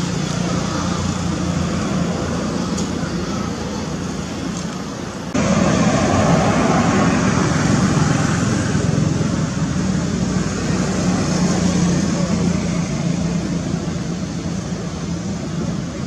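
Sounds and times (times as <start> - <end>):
low hum of distant traffic: 0.0 - 16.0.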